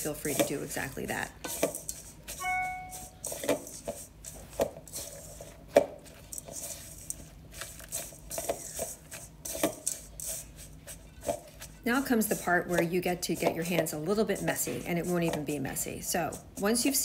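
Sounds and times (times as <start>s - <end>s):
spatula scraping steel bowl: 0.0s - 17.0s.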